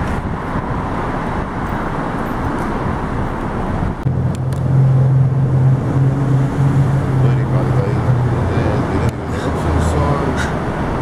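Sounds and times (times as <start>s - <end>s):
car running rushing noise: 0.0s - 11.0s.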